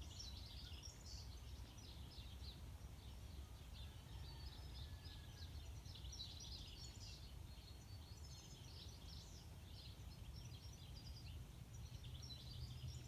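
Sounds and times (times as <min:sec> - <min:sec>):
birds singing faintly: 0:00.0 - 0:13.0.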